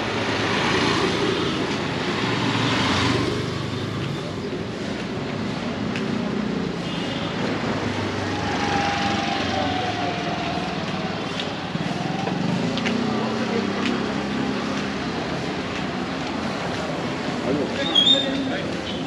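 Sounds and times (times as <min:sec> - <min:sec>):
street noise: 0:00.0 - 0:19.0.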